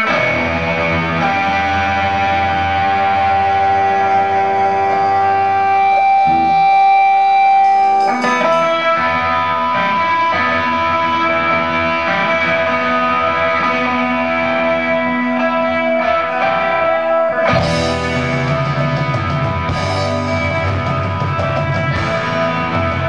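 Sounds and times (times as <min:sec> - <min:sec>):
electric guitar chord: 0:00.0 - 0:23.0
rock band playing: 0:00.0 - 0:23.0.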